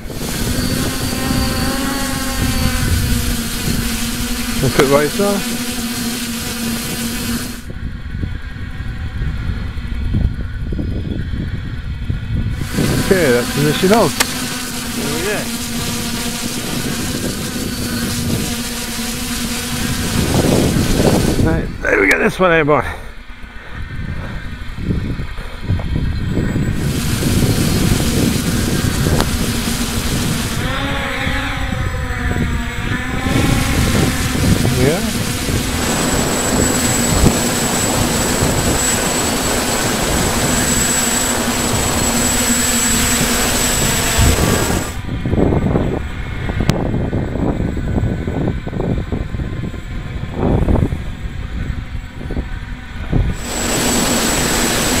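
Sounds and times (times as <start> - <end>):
thin high whine: 0.0 - 10.0, 12.4 - 23.4, 24.0 - 47.6, 51.6 - 55.0
drone motors humming: 0.0 - 55.0.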